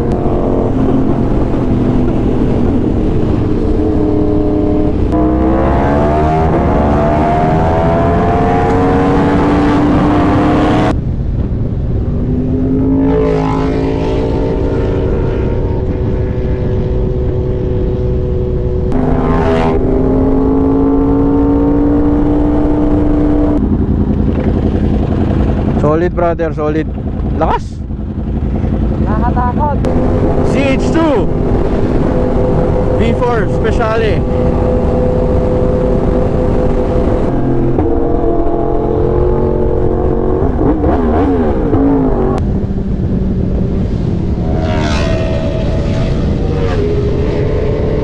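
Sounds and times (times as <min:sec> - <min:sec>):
motorcycle engine accelerating: 0:00.0 - 0:48.0
wind rumble: 0:00.0 - 0:48.0.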